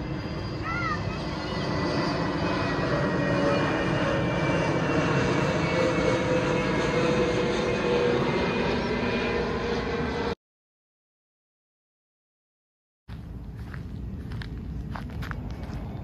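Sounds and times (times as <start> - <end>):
jet airliner passing overhead: 0.0 - 10.4, 13.1 - 16.0.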